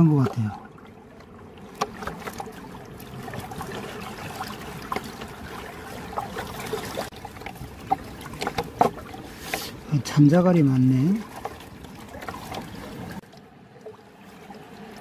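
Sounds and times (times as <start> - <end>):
small splashes and clicks: 0.0 - 9.8, 10.9 - 15.0
river water flowing: 0.0 - 15.0.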